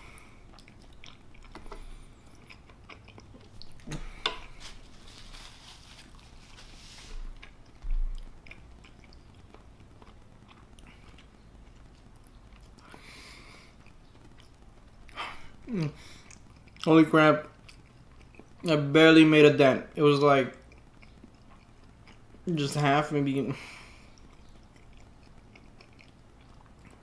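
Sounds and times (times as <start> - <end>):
close chewing with mouth clicks: 0.1 - 16.9, 17.5 - 18.7, 20.6 - 22.4, 23.6 - 27.0.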